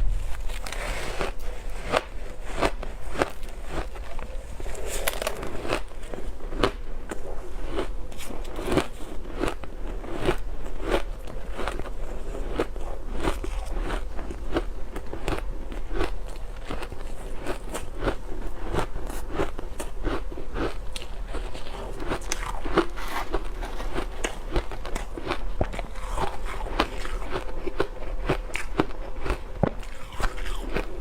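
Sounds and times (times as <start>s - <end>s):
ice being chewed: 0.3s - 31.0s.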